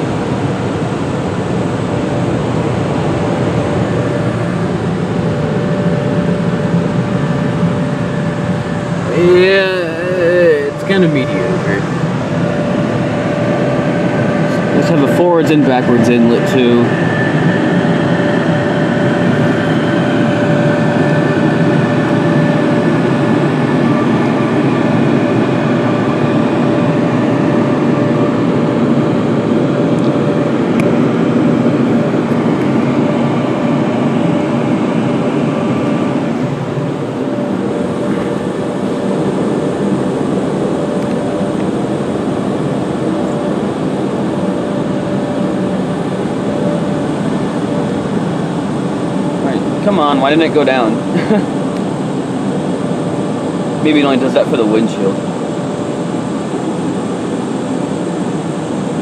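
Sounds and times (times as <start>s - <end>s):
car wash dryer blowers rushing: 0.0s - 59.0s.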